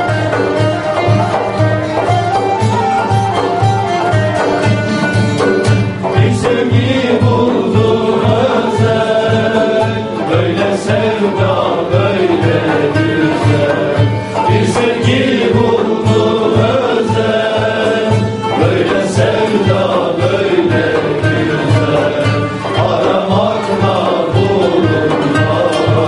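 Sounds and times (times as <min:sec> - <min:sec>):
long-necked lute: 0:00.0 - 0:26.0
voices singing folk song: 0:00.0 - 0:26.0.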